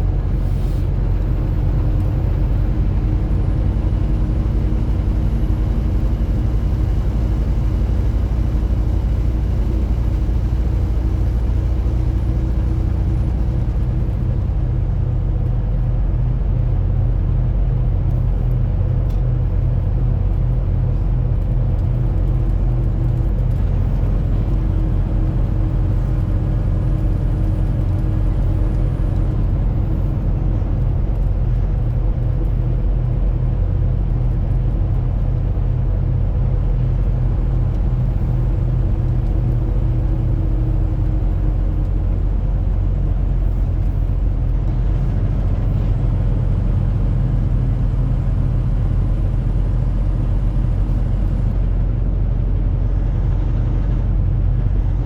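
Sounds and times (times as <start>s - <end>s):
road rumble: 0.0s - 55.0s
truck engine drone: 0.0s - 55.0s.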